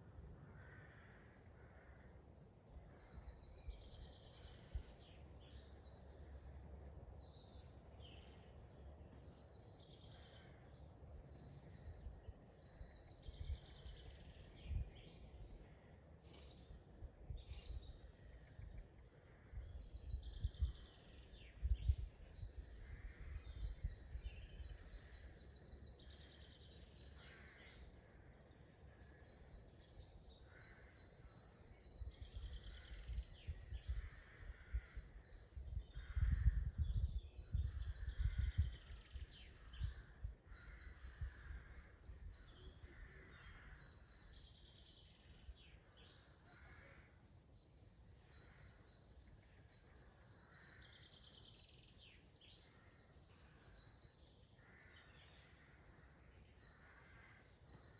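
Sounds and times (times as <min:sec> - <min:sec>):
woodland birds singing: 0:00.2 - 0:57.9.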